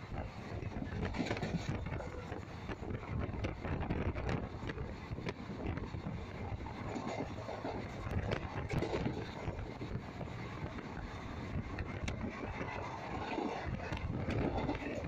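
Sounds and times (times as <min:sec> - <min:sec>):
train wheels rumbling on rails: 0:00.0 - 0:15.0
wind buffeting microphone: 0:00.0 - 0:15.0.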